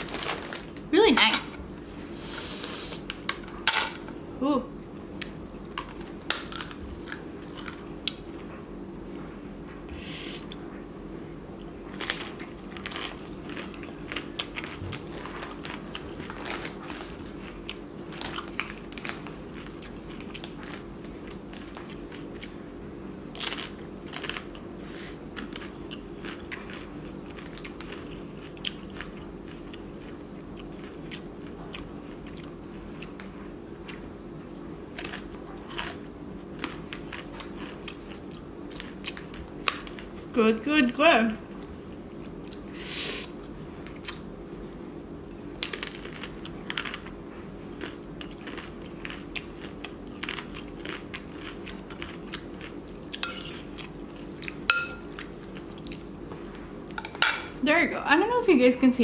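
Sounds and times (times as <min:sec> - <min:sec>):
crunching and chewing: 0:00.0 - 0:00.9, 0:05.0 - 0:09.1, 0:11.6 - 0:34.2, 0:34.8 - 0:40.3, 0:41.5 - 0:44.3, 0:45.2 - 0:57.6.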